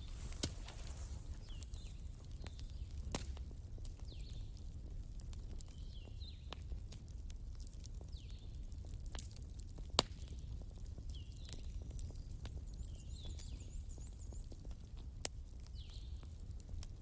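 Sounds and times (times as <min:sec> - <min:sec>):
bonfire crackling and popping: 0:00.0 - 0:17.0
low fire rumble: 0:00.0 - 0:17.0.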